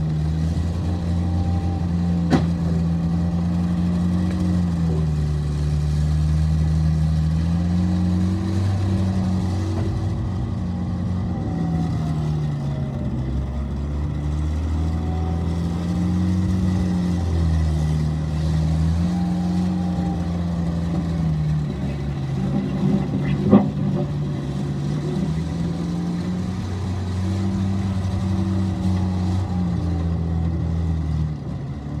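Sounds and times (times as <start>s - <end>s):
loader diesel engine revving: 0.0s - 32.0s.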